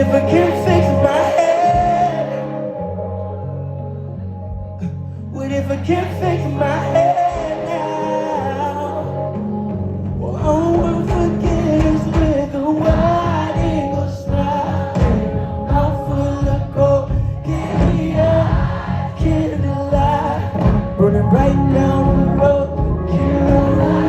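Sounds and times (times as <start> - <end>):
live band with singing: 0.0 - 24.0.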